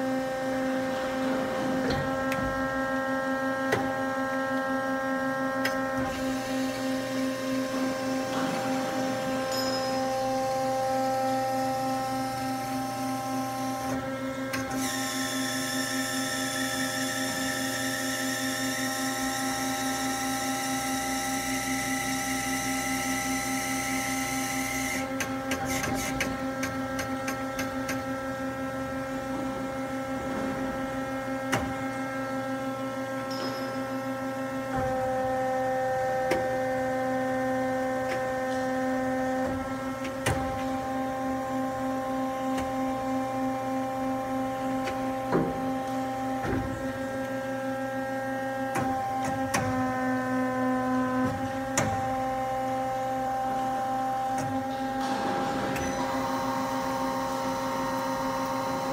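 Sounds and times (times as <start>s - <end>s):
band saw hum and whine: 0.0s - 58.9s.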